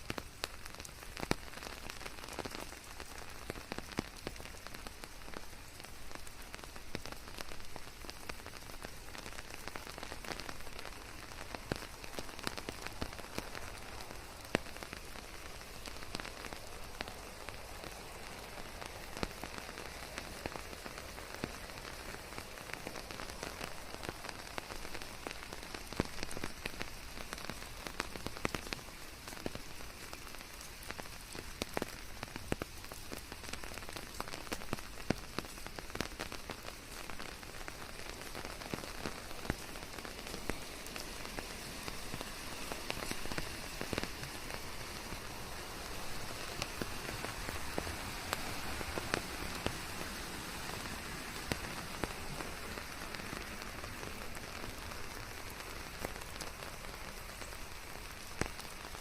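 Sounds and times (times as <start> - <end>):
raindrops ticking on a surface: 0.0 - 59.0
steady rain hissing: 0.0 - 59.0.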